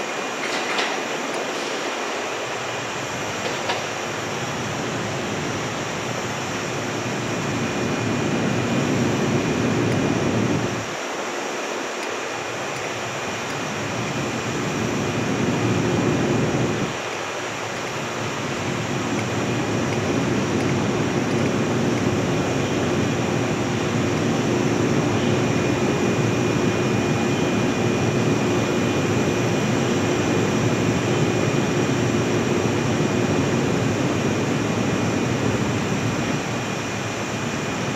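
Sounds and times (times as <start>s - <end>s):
train equipment whine: 0.0s - 37.9s.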